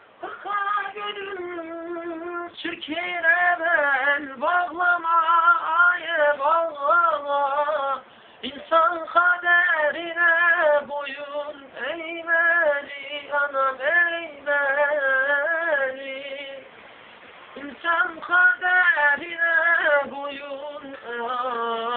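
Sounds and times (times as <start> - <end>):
man singing unaccompanied: 0.0 - 16.8, 17.6 - 21.9.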